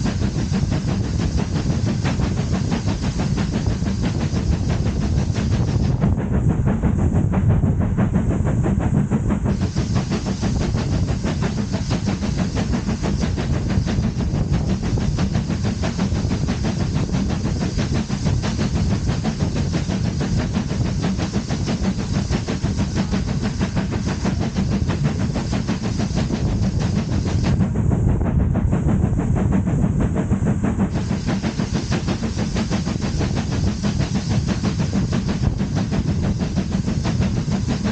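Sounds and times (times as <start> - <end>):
train rumbling with hiss: 0.0 - 37.9.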